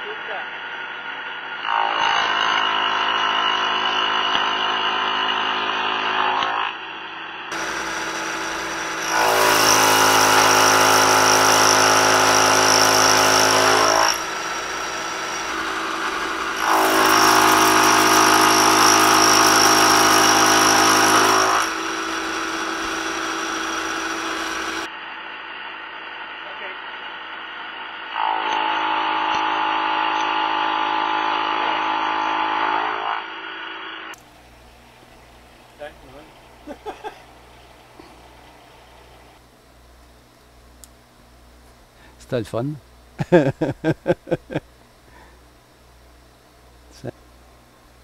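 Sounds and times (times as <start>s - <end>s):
milling cutter pitched hum: 0.0s - 48.0s.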